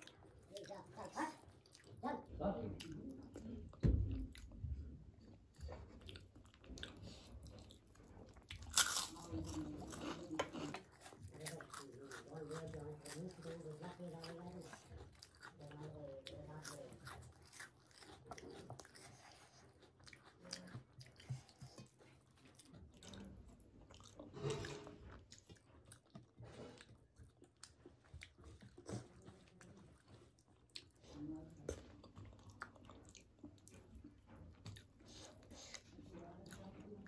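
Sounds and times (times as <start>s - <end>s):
chewing and lip-smacking: 0.0s - 37.0s.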